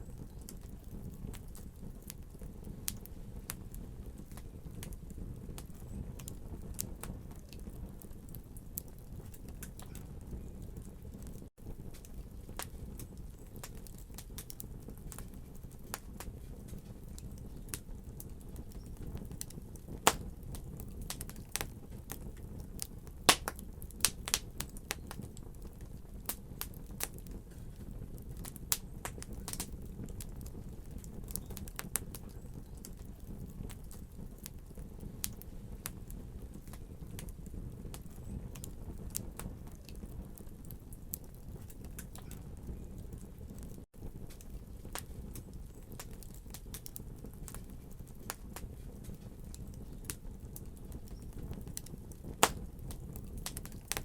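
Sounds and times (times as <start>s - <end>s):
fire low rumble: 0.0s - 54.0s
wood fire crackling and popping: 0.0s - 54.0s.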